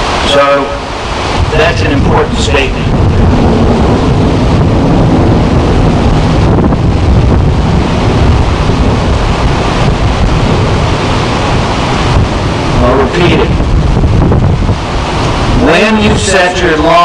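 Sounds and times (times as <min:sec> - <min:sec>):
loud low rushing noise: 0:00.0 - 0:16.9.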